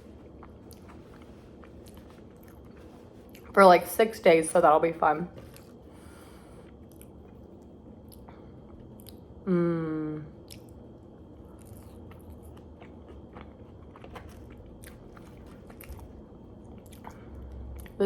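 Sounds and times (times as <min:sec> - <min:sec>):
person chewing food: 0:00.0 - 0:03.5, 0:05.4 - 0:09.3, 0:10.4 - 0:18.0.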